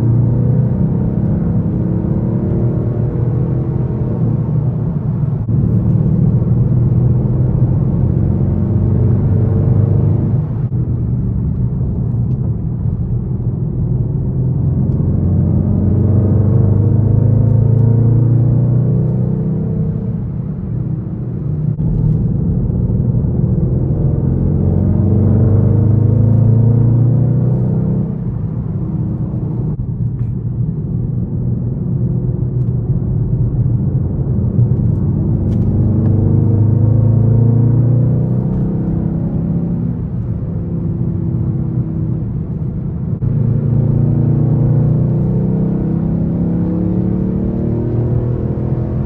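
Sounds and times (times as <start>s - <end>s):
car exhaust deep drone: 0.0s - 49.0s.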